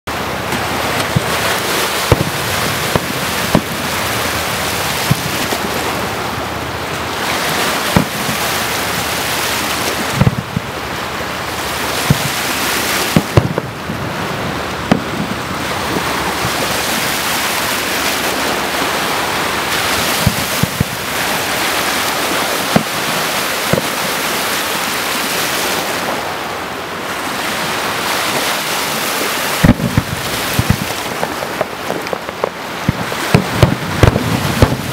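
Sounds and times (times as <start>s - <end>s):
wind on microphone: 0.2s - 24.2s, 27.4s - 34.9s
fireworks bursting: 0.4s - 18.7s, 19.6s - 24.8s, 28.1s - 34.9s.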